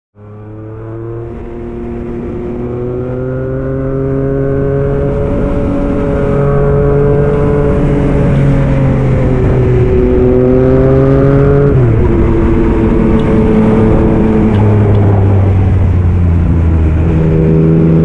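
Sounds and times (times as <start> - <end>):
motorcycle engine accelerating: 0.2 - 18.0.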